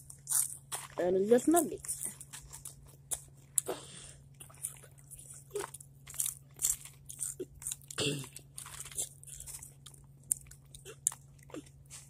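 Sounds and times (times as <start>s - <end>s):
chips crunching while chewed: 0.0s - 3.7s, 4.3s - 12.0s
steady low hum: 0.0s - 12.0s.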